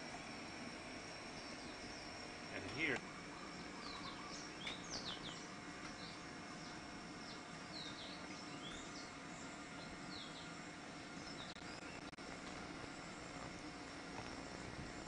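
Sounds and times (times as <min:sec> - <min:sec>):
small birds chirping: 0:01.2 - 0:15.0.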